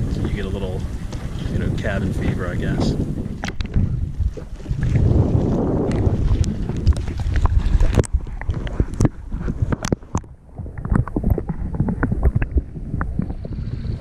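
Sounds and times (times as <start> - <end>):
muffled underwater water movement: 0.0 - 14.0
sea water splashing: 0.0 - 14.0.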